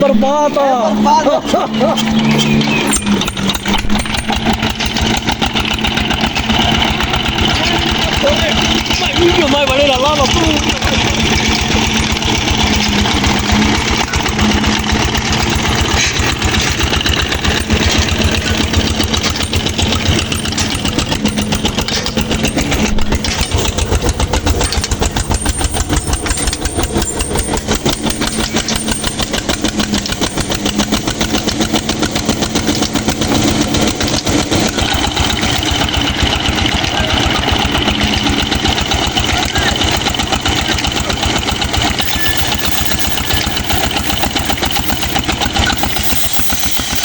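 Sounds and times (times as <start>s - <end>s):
old engine running: 0.0s - 47.0s.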